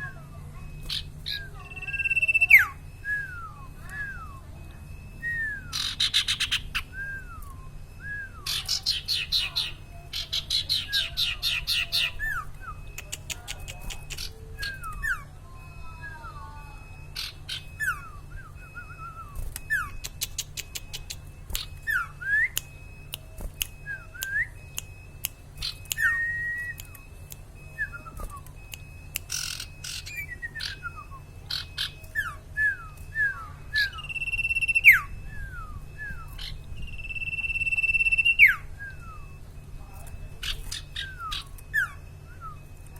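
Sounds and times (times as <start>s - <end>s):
low steady hum: 0.0s - 42.9s
songbird whistles and trills: 0.6s - 42.9s.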